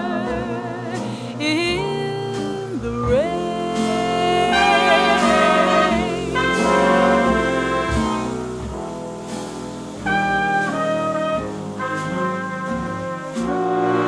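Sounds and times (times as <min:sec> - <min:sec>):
jazz orchestra playing: 0:00.0 - 0:14.0.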